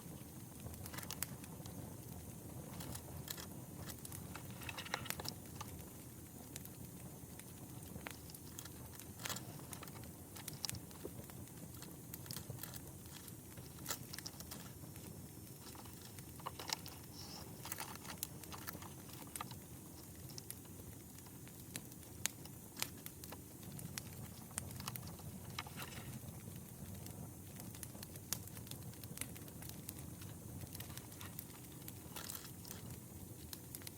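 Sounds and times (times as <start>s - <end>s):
campfire crackling and popping: 0.0s - 33.9s
low rumble of burning fire: 0.0s - 33.9s.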